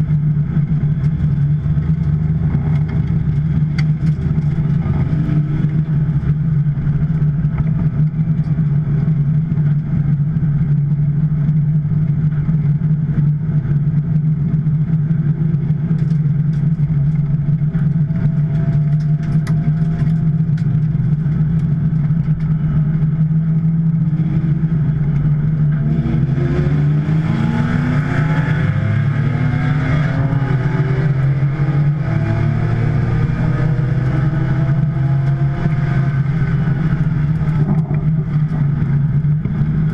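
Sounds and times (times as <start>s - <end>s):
sports car engine racing: 0.0s - 39.9s.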